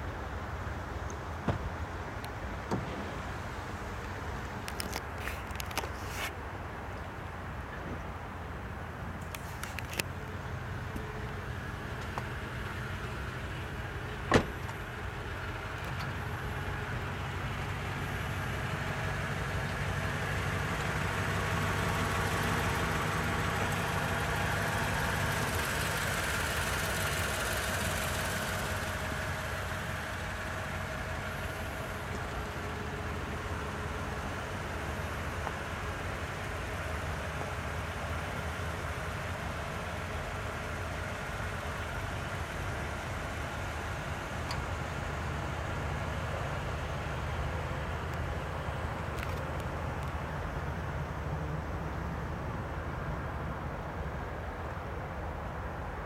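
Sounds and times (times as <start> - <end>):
pickup engine running: 6.8 - 54.8.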